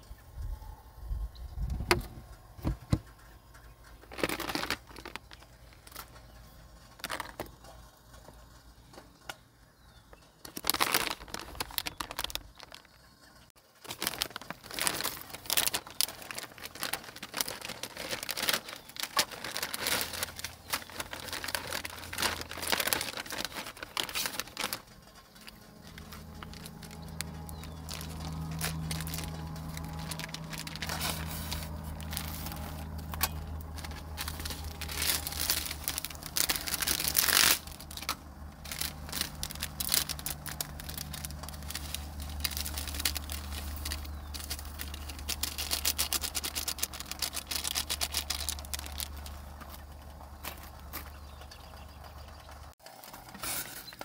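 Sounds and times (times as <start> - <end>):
low steady hum: 0.0 - 53.8
plastic packaging crinkling: 4.0 - 8.2, 10.4 - 54.0.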